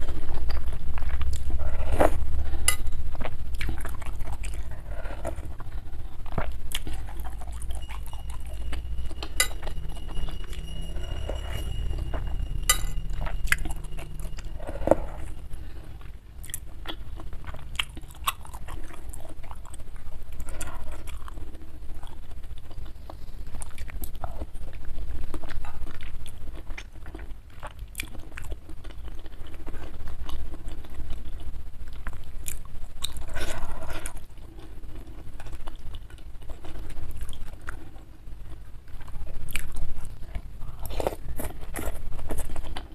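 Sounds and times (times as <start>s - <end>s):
chewing and mouth sounds: 0.0s - 9.2s, 13.5s - 42.9s.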